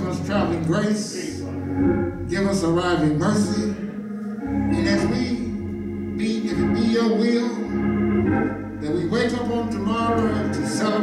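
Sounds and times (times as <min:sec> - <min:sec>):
church organ sustained chords: 0:00.0 - 0:11.0.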